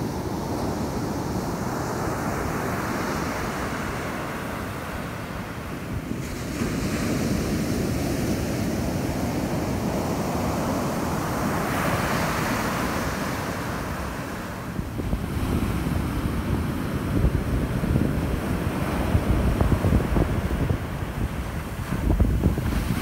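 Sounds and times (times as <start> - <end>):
surf breaking on sand: 0.0 - 23.0
wind buffeting microphone: 0.0 - 23.0.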